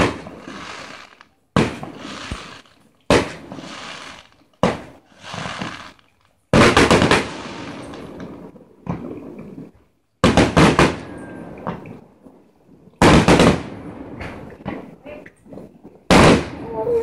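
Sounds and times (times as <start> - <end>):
firework shells bursting: 0.0 - 12.0, 13.0 - 14.9.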